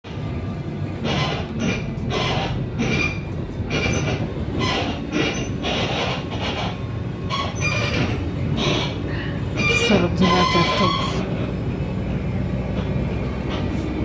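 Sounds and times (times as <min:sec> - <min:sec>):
bus engine rumble: 0:00.0 - 0:14.0
bus body creaking and squeaking: 0:00.1 - 0:14.0.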